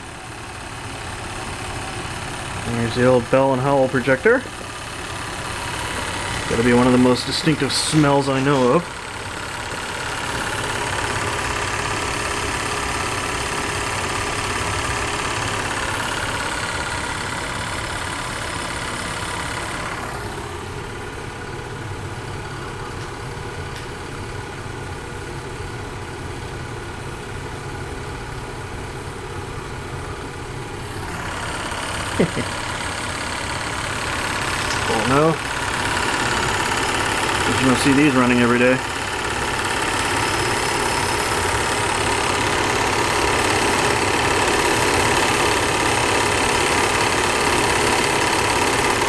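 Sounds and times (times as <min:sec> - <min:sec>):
film projector whirring: 0:00.0 - 0:49.0.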